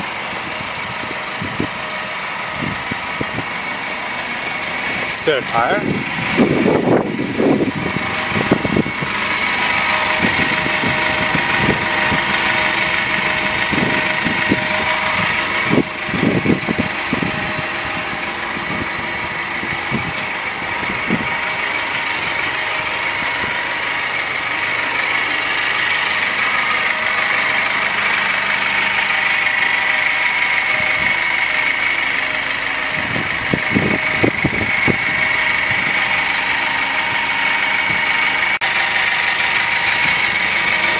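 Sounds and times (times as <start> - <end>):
high-pitched whine: 0.0 - 40.9
truck engine idling: 0.0 - 40.9.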